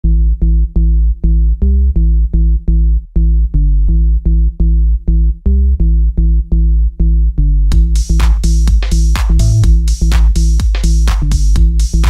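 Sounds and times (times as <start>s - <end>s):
pulsing bass synth music: 0.0s - 12.0s.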